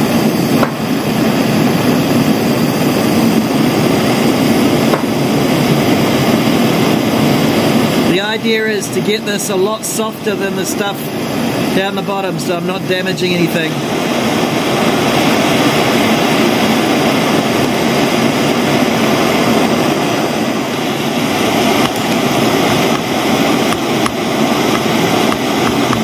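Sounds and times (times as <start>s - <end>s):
blowtorch jet hissing: 0.0s - 26.0s.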